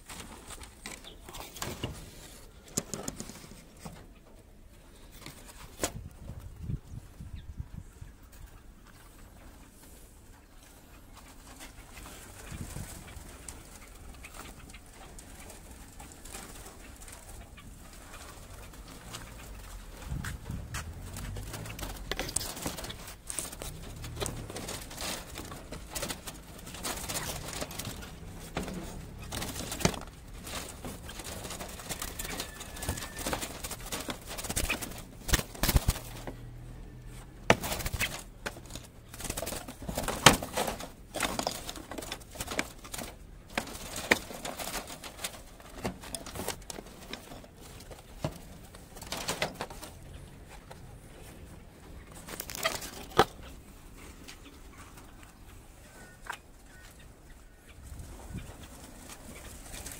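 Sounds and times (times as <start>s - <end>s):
pigeons cooing: 8.2s - 59.9s.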